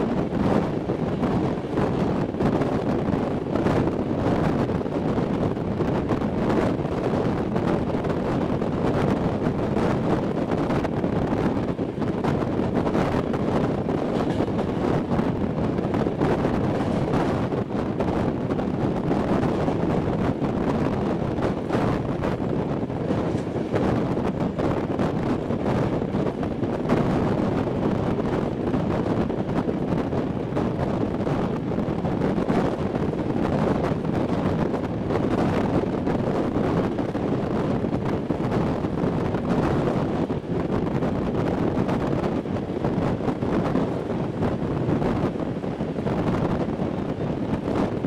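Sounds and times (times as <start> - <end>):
train rolling on track: 0.0 - 48.0
wind noise on microphone: 0.0 - 48.0.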